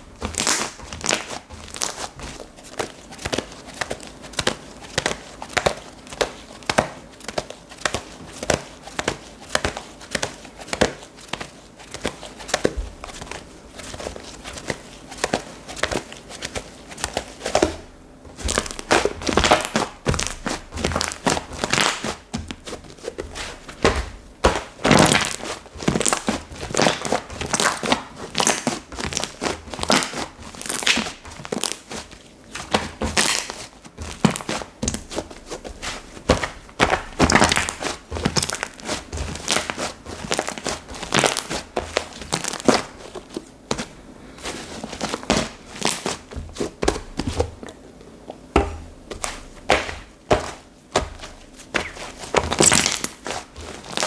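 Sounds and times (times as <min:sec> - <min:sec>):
hands squishing slime: 0:00.0 - 0:54.0.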